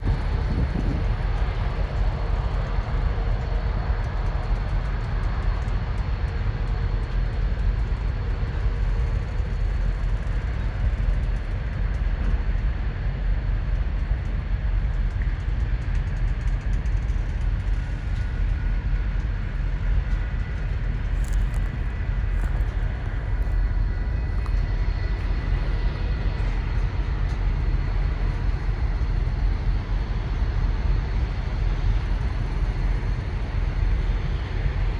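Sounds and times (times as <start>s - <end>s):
train rumbling on rails: 0.0s - 33.6s.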